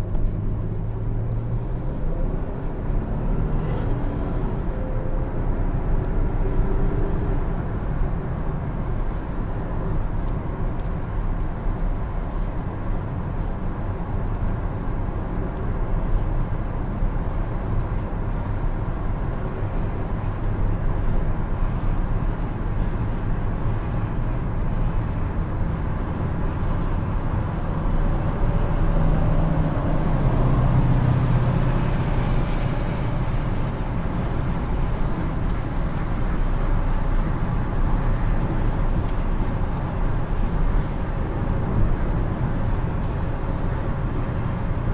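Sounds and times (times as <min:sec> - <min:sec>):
car engine humming: 0:00.0 - 0:44.9
tyre and road rumble: 0:00.0 - 0:44.9.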